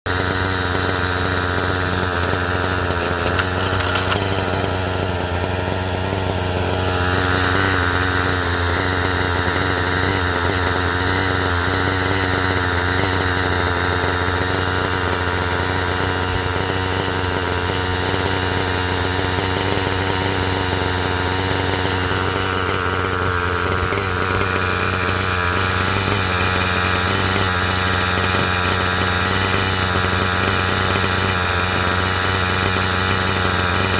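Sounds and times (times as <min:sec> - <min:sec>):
higher buzz: 0:00.1 - 0:33.9.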